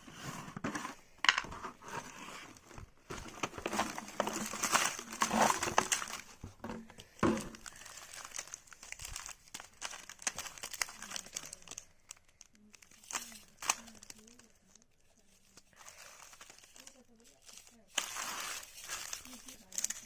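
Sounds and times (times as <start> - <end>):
wrapper crinkling and tearing: 2.5 - 20.0.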